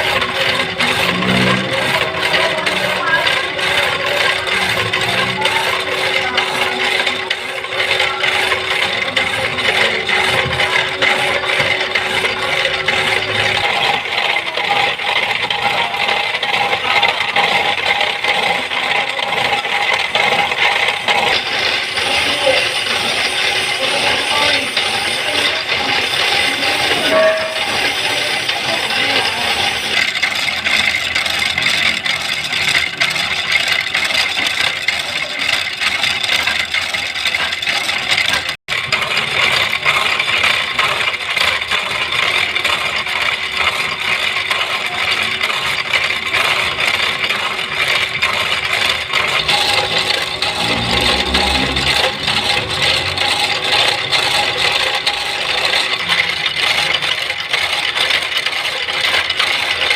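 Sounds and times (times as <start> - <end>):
power hacksaw cutting metal: 0.0 - 59.9.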